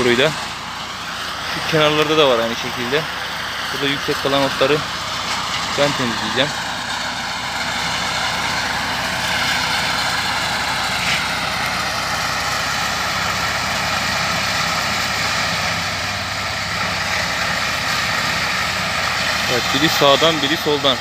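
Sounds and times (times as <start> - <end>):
mowing machine engines droning: 0.0 - 21.0.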